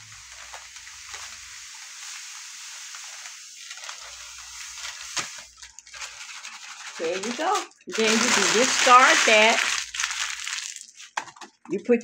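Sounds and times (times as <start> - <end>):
grits pouring into plastic jar: 0.0 - 11.2.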